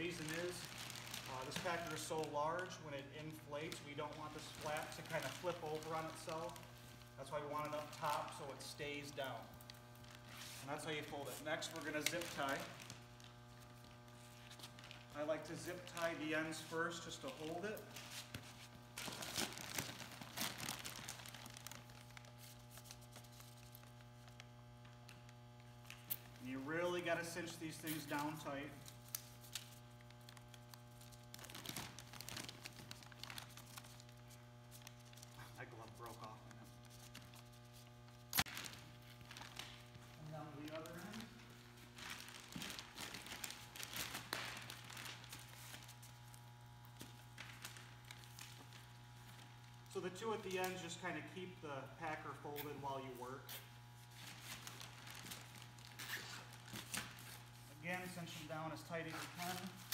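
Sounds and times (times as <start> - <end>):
plastic sheeting crinkling: 0.0 - 51.2, 51.9 - 59.9
low electrical hum: 0.0 - 59.9.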